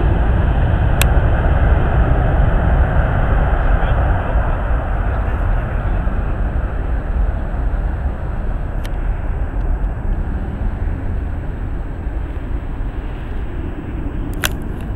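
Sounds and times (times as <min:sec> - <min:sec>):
distant jet engines rumbling: 0:00.0 - 0:14.9.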